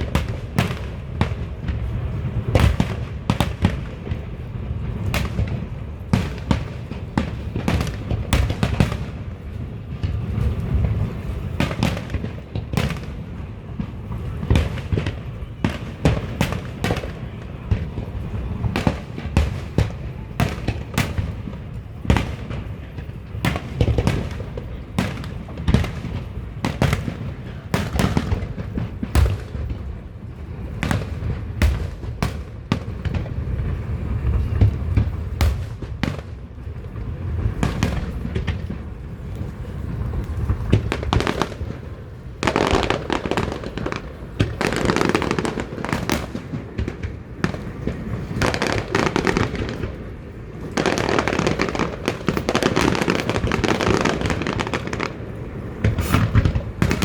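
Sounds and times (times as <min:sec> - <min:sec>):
fireworks bangs and booms: 0:00.0 - 0:57.0.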